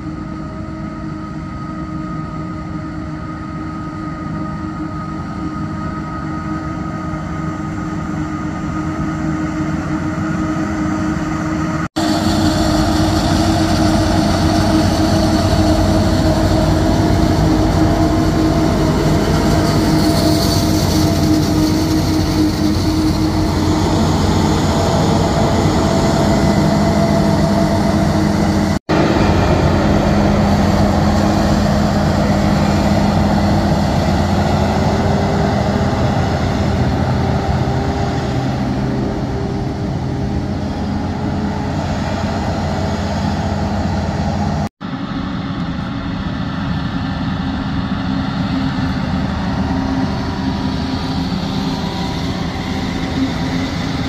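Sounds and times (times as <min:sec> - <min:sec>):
diesel engines running under load: 0:00.0 - 0:54.0.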